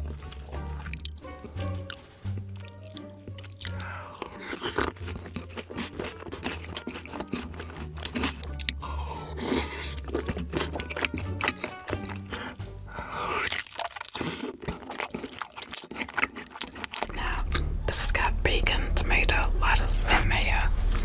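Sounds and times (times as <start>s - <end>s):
person crunching food: 0.0s - 17.7s
background music: 0.0s - 21.0s.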